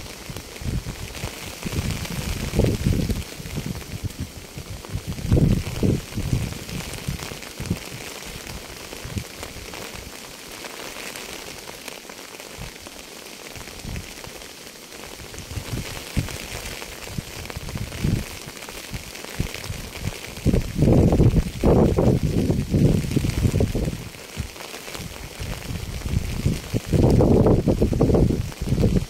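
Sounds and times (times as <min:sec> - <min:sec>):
heavy raindrops thumping: 0:00.0 - 0:29.0
rainfall hiss: 0:00.0 - 0:29.0.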